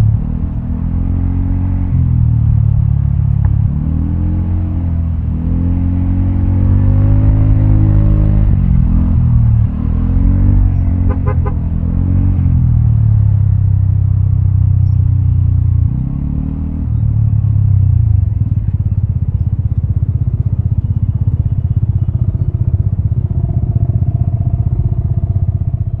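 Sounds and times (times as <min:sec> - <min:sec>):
scooter engine revving and idling: 0:00.0 - 0:26.0.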